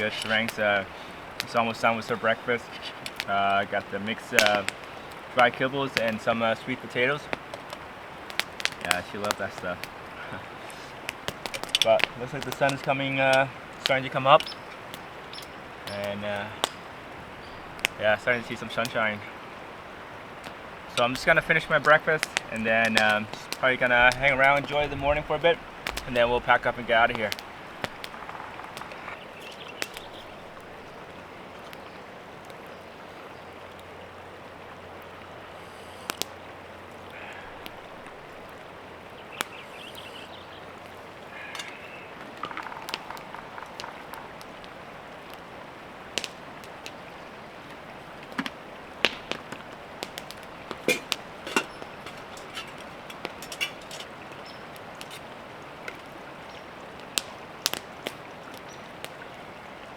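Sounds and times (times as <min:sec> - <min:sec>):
creek flowing: 0:00.0 - 0:59.9.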